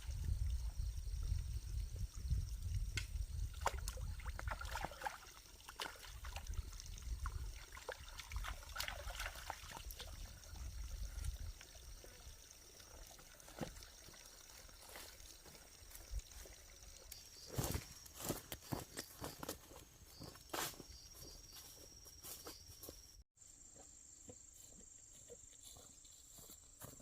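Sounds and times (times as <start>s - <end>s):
water trickling and splashing: 0.0s - 21.7s.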